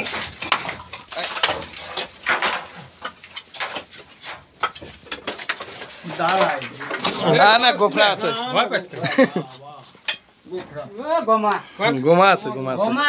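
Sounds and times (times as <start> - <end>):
firewood knocking and clattering: 0.0 - 11.6.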